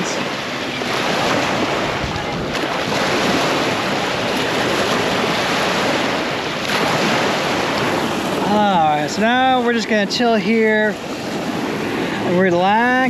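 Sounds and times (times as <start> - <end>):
small waves washing on beach: 0.0 - 13.0
wind buffeting microphone: 0.0 - 13.0.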